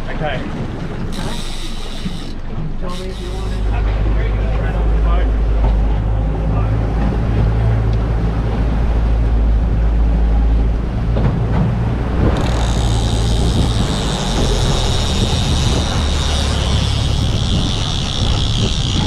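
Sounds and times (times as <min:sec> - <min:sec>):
boat motor humming: 0:00.0 - 0:19.0
water noise: 0:00.0 - 0:19.0
wind: 0:00.0 - 0:19.0.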